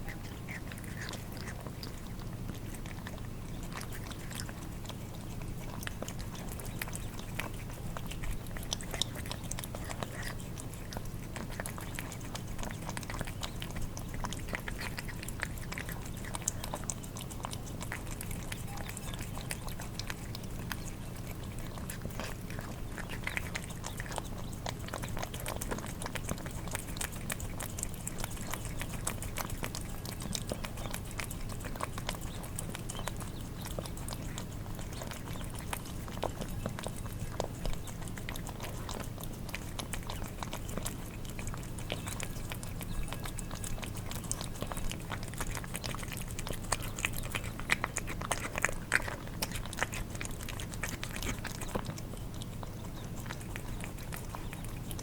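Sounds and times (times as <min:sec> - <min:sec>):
cats licking and chewing: 0:00.0 - 0:55.0
steady low hum: 0:00.0 - 0:55.0.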